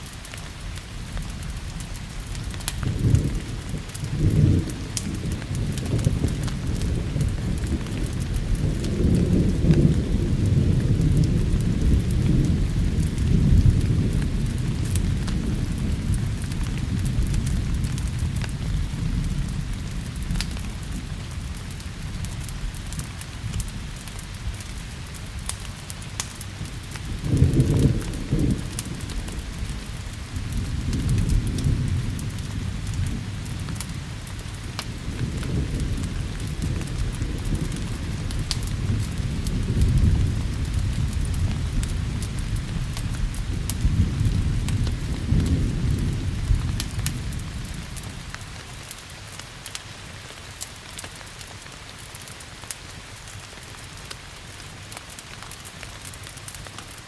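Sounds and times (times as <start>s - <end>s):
log fire crackling: 0.0s - 57.0s
steady rain: 0.0s - 57.0s
thunder rumbling: 0.9s - 48.7s.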